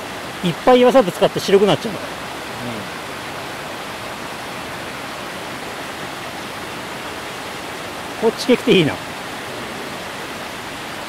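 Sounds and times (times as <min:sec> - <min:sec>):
waterfall pouring onto rocks: 0:00.0 - 0:11.0.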